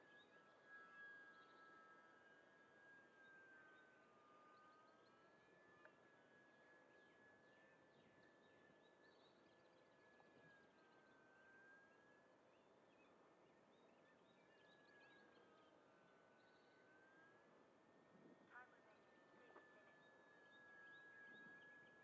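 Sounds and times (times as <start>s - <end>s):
electric model plane motor whine: 0.0s - 22.0s.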